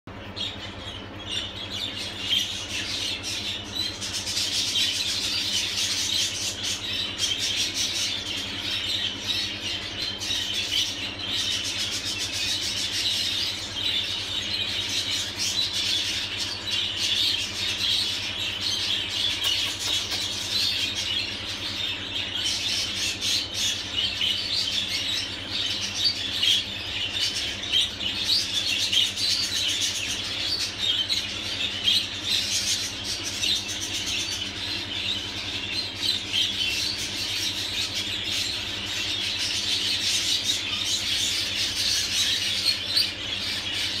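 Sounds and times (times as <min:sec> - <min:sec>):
budgerigars chattering and chirping: 0:00.1 - 0:44.0.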